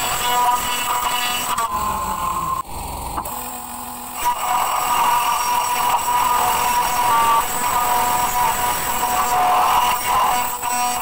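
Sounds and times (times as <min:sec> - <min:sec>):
milling machine high-pitched whine: 0:00.0 - 0:11.0.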